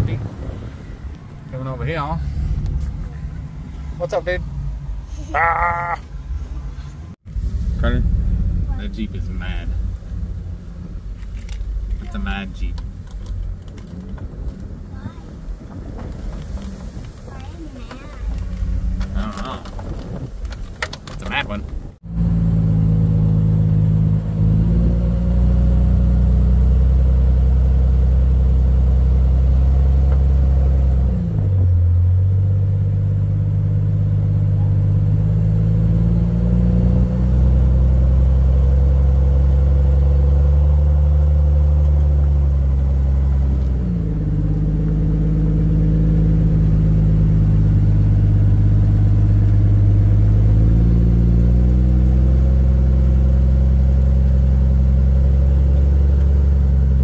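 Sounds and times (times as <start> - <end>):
engine pulling at low revs: 0.0 - 57.0.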